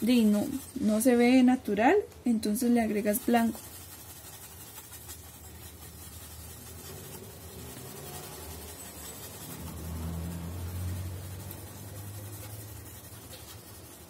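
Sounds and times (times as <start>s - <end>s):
paintbrush scratching on styrofoam: 0.0s - 1.7s, 2.3s - 14.0s.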